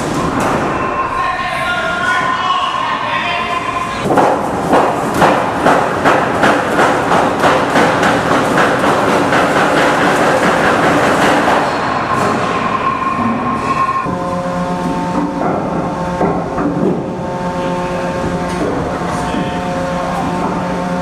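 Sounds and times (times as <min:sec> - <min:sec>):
steady multi-tone hum: 0:00.0 - 0:21.0.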